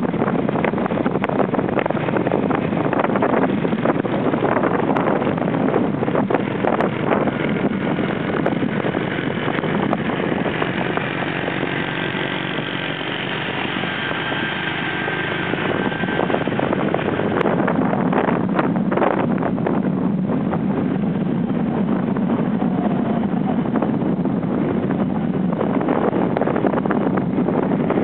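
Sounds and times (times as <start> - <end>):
vehicle engine and road noise: 0.0 - 28.0
wind on microphone: 0.0 - 28.0.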